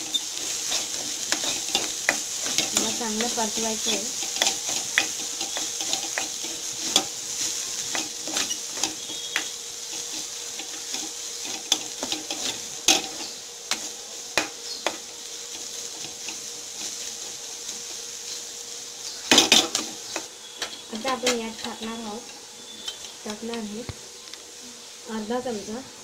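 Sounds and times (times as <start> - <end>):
spatula scraping a pan: 0.0 - 23.2
vegetables sizzling in oil: 0.0 - 26.0.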